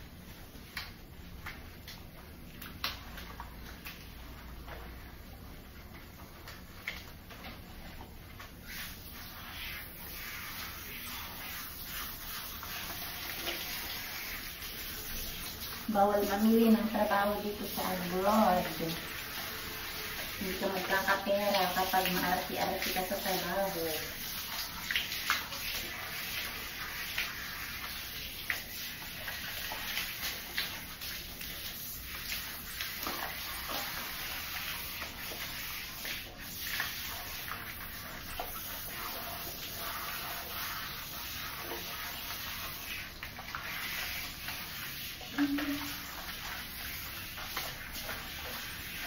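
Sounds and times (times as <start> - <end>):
shower head spraying water: 8.6 - 49.0.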